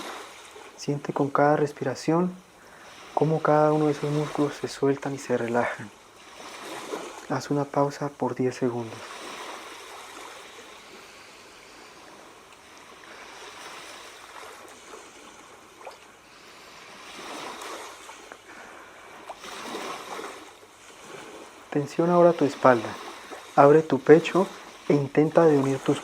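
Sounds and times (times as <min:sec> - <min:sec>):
ocean waves washing on shore: 0:00.0 - 0:26.0.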